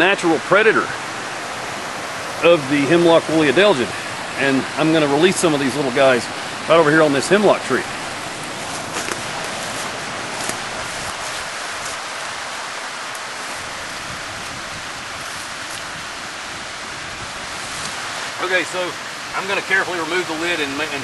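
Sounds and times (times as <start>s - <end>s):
rushing outdoor background noise: 0.0s - 21.0s.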